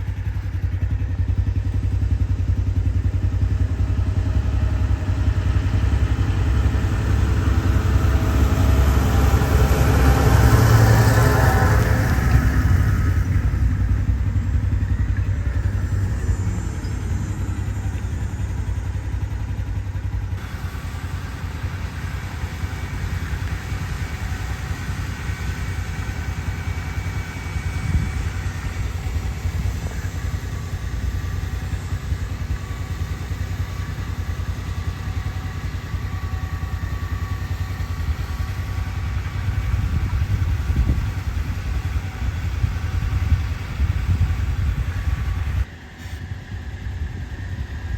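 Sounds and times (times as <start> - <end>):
faint steady whine: 0.0 - 47.9
tractor diesel engine running: 0.0 - 47.9.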